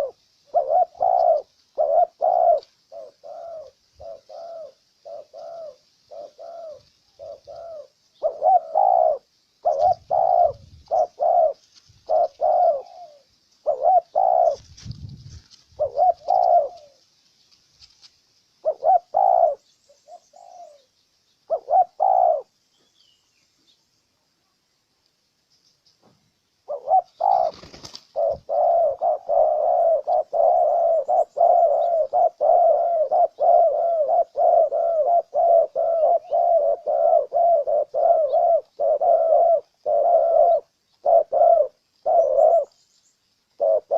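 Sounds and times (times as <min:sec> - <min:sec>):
doves cooing: 0:00.0 - 0:17.1, 0:18.6 - 0:20.9, 0:21.5 - 0:22.6, 0:26.6 - 0:42.8, 0:43.6 - 0:43.9.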